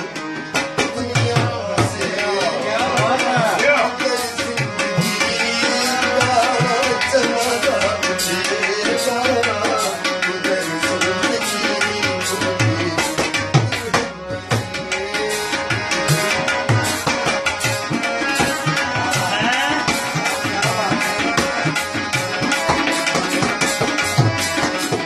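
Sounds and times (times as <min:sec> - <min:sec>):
harmonium melody: 0:00.0 - 0:25.0
tabla beat: 0:00.0 - 0:25.0.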